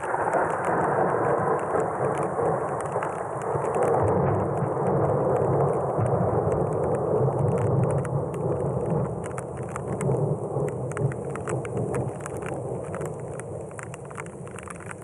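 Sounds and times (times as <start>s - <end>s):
raindrops ticking: 0.0s - 15.0s
thunder rumbling: 0.0s - 15.0s.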